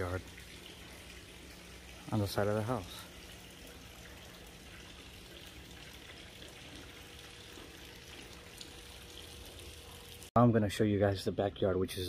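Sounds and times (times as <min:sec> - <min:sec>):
fountain water trickling: 0:00.0 - 0:10.3.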